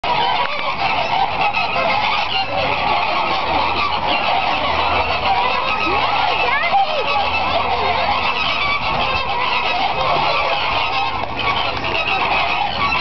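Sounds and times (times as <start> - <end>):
flock of flamingos honking: 0.0 - 13.0.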